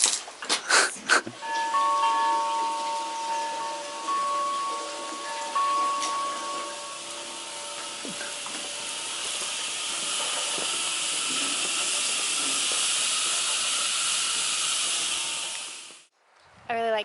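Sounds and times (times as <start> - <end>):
water spraying onto plants: 0.0 - 16.1.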